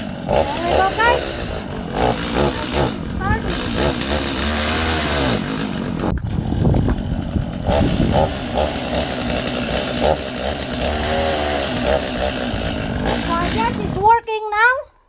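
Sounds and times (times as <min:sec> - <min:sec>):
chainsaw revving: 0:00.0 - 0:14.1.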